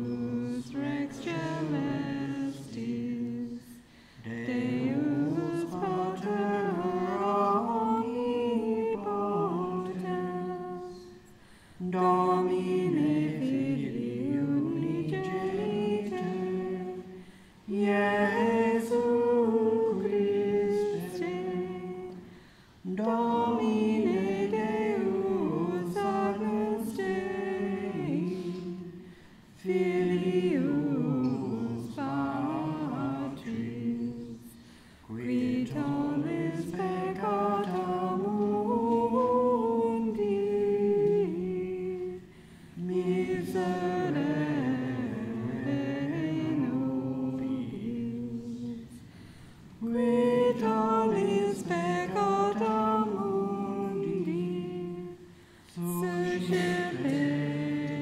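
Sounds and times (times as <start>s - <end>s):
unaccompanied liturgical chant: 0.0s - 58.0s.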